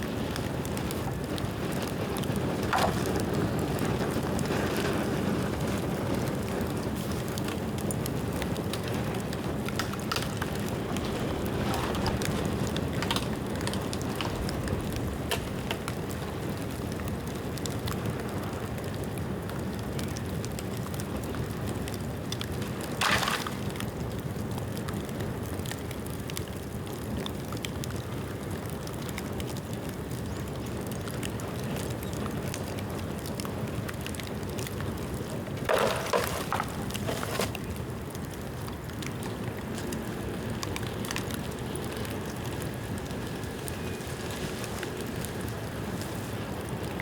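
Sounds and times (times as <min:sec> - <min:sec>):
bonfire rushing and crackling: 0:00.0 - 0:47.0.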